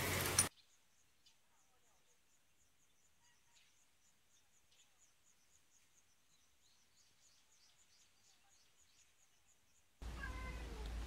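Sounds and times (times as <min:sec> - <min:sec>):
faint high chirping: 0:00.4 - 0:10.9.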